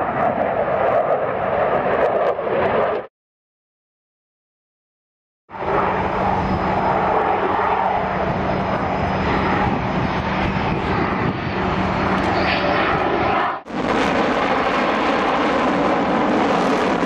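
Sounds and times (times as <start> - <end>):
aircraft engine roar: 0.0 - 3.1, 5.5 - 17.0.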